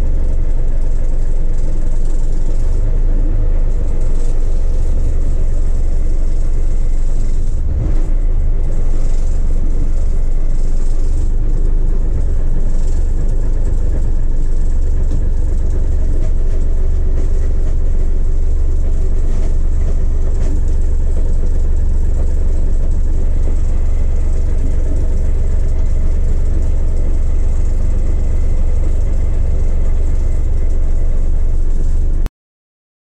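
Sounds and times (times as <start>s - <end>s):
diesel engine idling: 0.0s - 32.3s.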